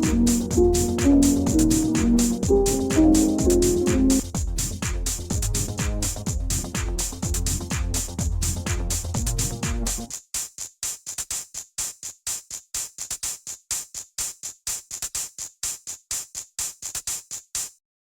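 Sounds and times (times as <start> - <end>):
crisp hi-hat-like hits: 0.0 - 17.8
electronic beat with bass and drums: 0.0 - 17.8.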